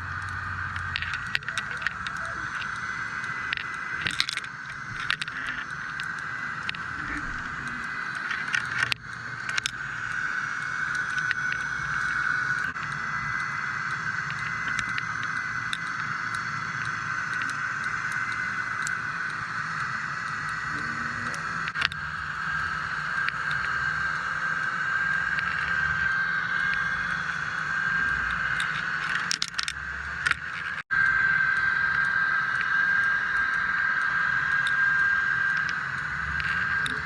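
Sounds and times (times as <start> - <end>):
boat engine hum underwater: 0.0 - 37.0
high whine: 0.0 - 37.0
sharp clicks and crackles: 0.0 - 37.0.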